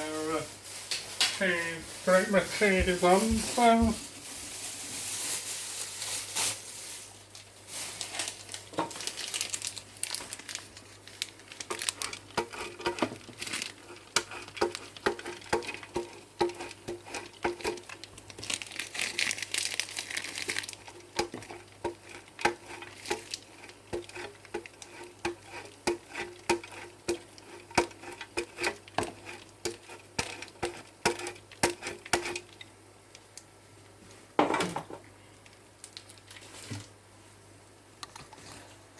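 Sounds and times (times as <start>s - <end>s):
plastic packet crinkling: 0.0s - 32.6s.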